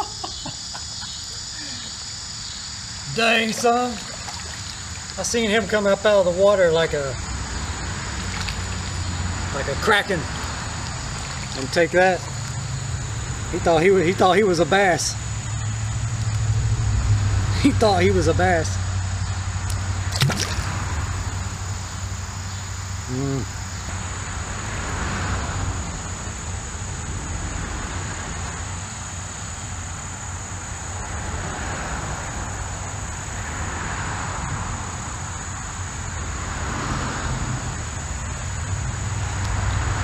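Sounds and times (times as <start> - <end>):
traffic tyre noise: 0.6 - 40.0.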